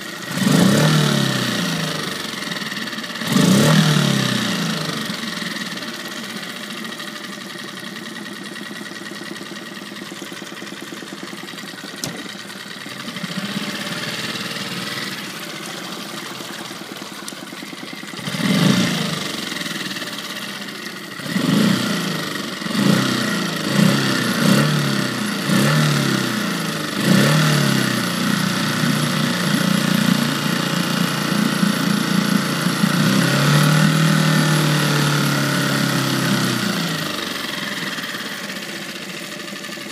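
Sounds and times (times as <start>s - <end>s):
outboard motor idling and revving: 0.0s - 39.9s.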